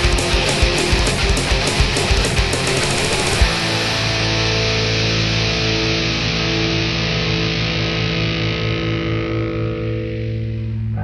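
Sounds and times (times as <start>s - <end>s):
distorted electric guitar chord ringing: 0.0s - 11.0s.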